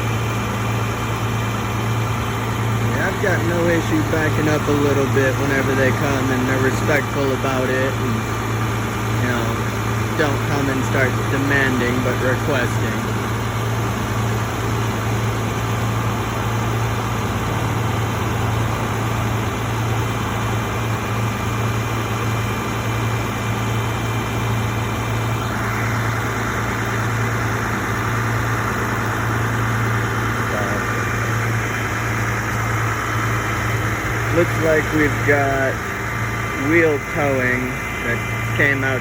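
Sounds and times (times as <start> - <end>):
high even whirring: 0.0 - 39.0
vehicle engine idling: 0.0 - 39.0.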